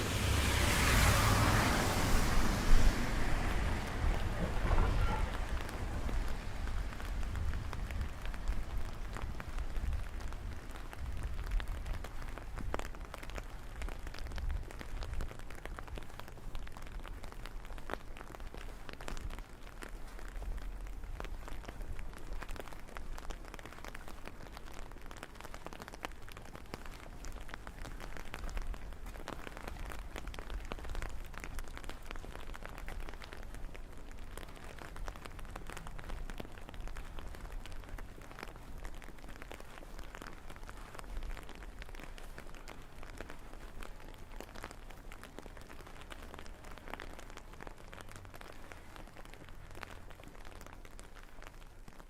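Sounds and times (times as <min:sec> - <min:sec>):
rain pattering on hard surfaces: 0:00.0 - 0:52.0.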